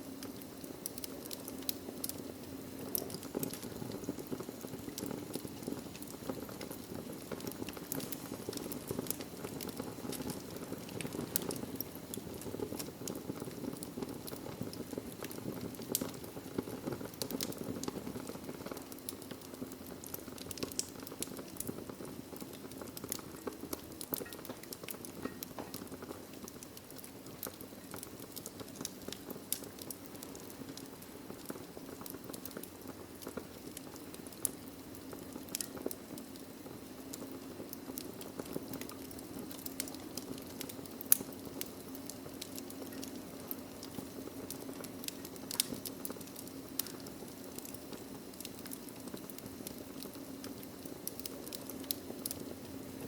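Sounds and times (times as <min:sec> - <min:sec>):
wood crackling and popping: 0:00.0 - 0:53.0
fire flames rushing: 0:00.2 - 0:53.0.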